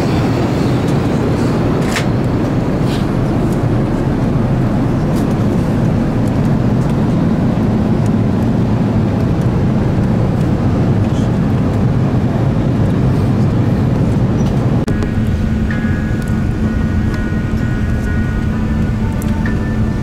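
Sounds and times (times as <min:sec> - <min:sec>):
airliner cabin engine noise: 0:00.0 - 0:20.0.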